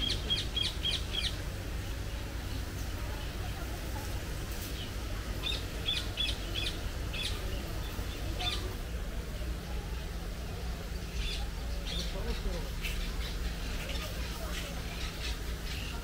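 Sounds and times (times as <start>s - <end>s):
birds chirping: 0.0s - 3.6s, 4.6s - 16.0s
low background rumble: 0.0s - 16.0s.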